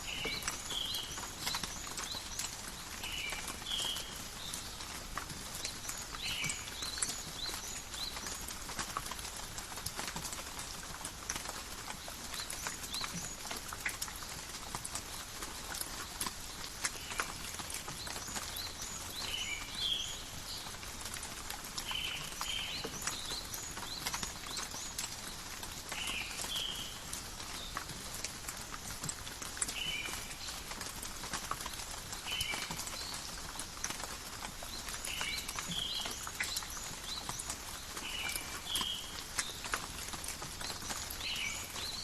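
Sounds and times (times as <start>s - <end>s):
rain dripping on leaves: 0.0s - 42.0s.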